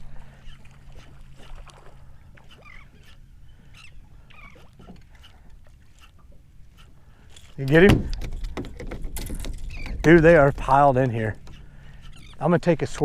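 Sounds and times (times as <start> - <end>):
light water noise: 0.0 - 13.0
seabirds chirping: 0.0 - 13.0.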